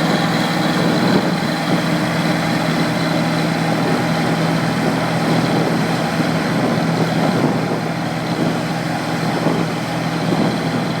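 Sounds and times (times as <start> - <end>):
heavy diesel engine drone: 0.0 - 11.0.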